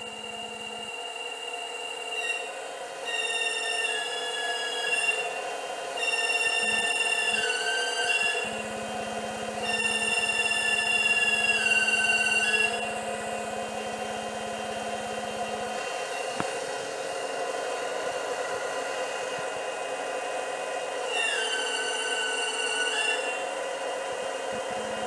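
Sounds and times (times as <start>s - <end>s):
hydraulic pump whine: 0.0s - 25.0s.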